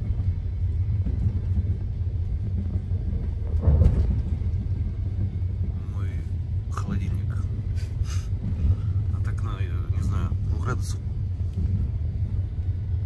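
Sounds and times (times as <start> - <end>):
train rumble inside compartment: 0.0 - 13.0.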